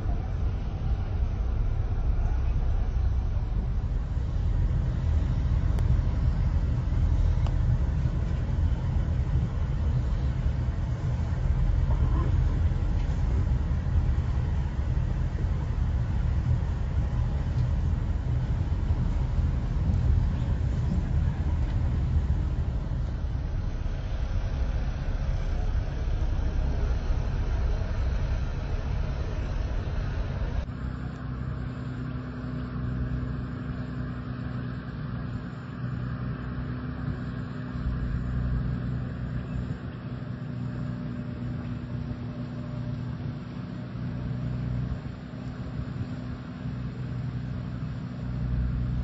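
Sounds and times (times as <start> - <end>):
heavy machinery engine rumble: 0.0 - 49.0
machine hum with low drone: 0.0 - 49.0.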